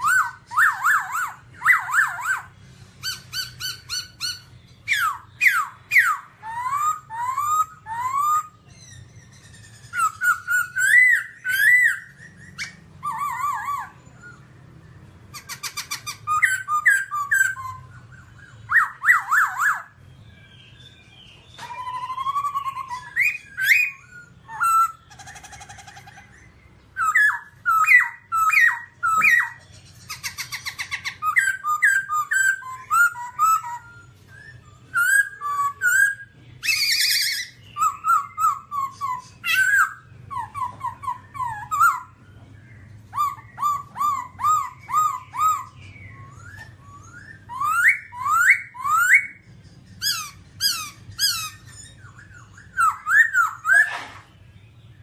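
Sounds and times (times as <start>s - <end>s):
bird singing whistled phrases: 0.0s - 14.6s, 15.3s - 55.0s.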